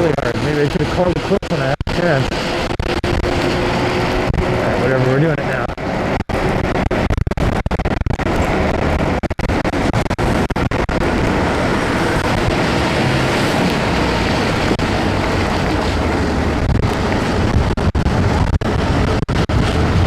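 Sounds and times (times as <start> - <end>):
heavy rain on microphone: 0.0 - 20.0
wind rushing: 0.0 - 20.0.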